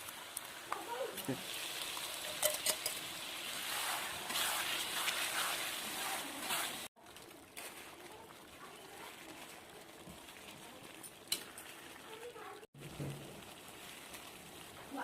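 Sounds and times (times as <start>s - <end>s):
chicken sizzling in frying: 0.0s - 15.0s.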